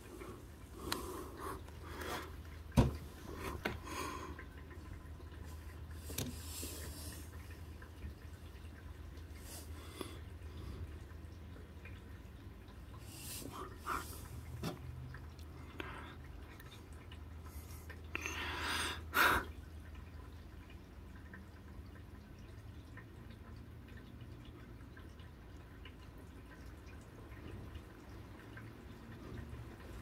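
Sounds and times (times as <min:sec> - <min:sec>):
rain dripping: 0:00.0 - 0:30.0.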